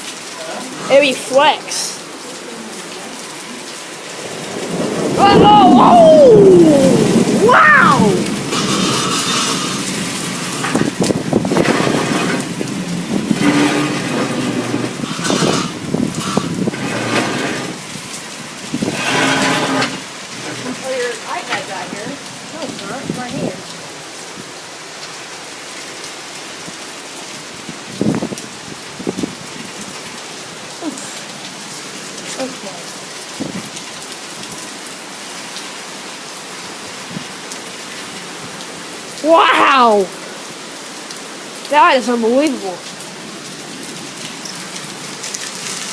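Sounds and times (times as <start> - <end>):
storm rain and wind: 0.0 - 45.9.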